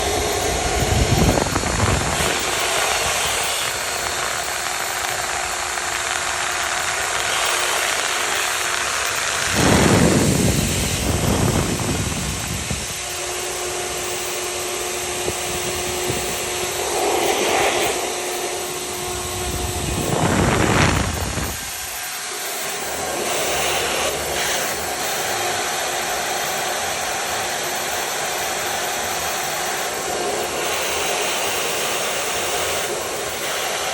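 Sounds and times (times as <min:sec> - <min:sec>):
router spindle whine milling wood: 0:00.0 - 0:33.9.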